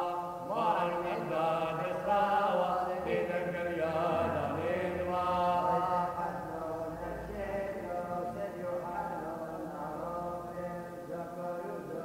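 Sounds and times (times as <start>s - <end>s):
voices chanting: 0.0s - 10.6s.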